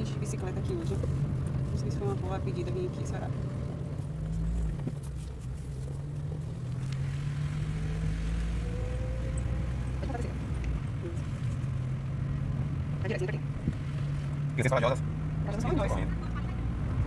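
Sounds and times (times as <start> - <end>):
car engine hum from inside cabin: 0.0 - 17.0.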